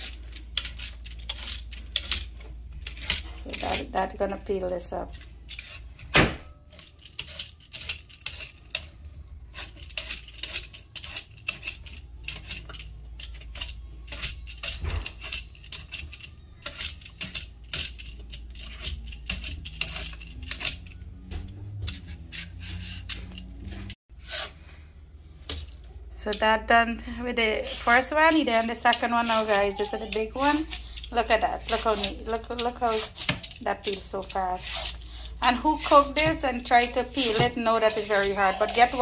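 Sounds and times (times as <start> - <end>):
vegetable peeler scraping squash: 0.0 - 6.1, 6.7 - 24.8, 26.4 - 39.0.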